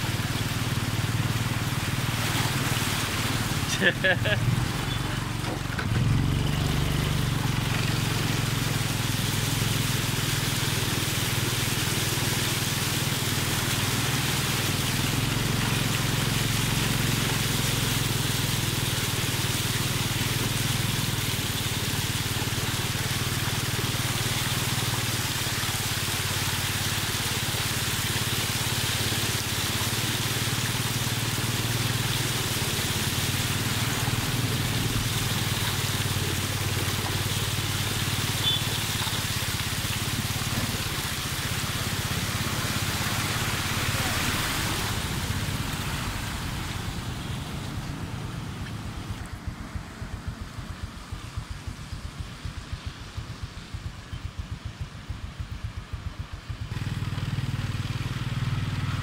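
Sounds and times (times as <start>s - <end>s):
wheels swishing through floodwater: 0.0s - 59.0s
small motorbike engine running: 3.1s - 45.7s, 49.4s - 59.0s.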